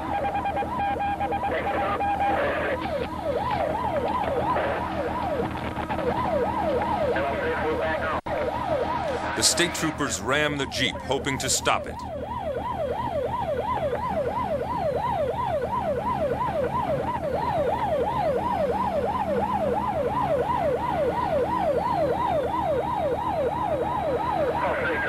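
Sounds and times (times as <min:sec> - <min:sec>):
engine and road noise: 0:00.0 - 0:25.0
police siren yelping: 0:00.0 - 0:25.0.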